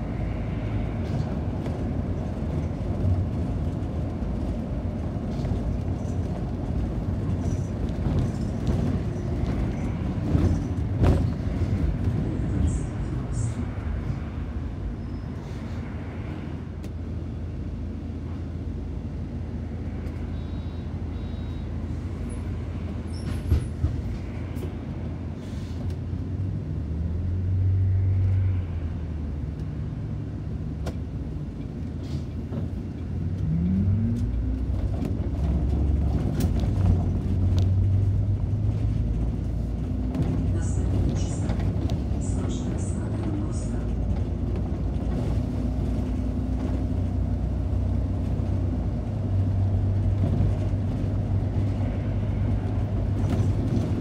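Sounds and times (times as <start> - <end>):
bus engine drone: 0.0 - 54.0.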